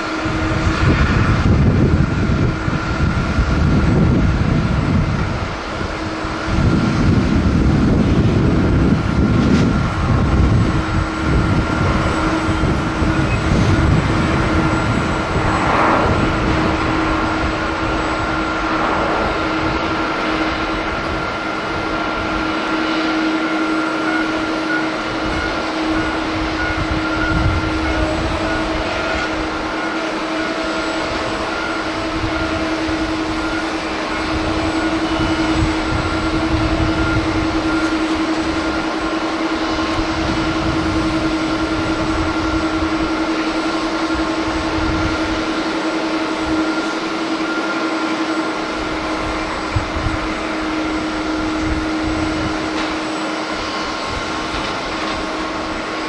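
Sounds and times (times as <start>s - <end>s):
jet engines running: 0.0s - 56.0s
wind rumbling on microphone: 0.0s - 56.0s.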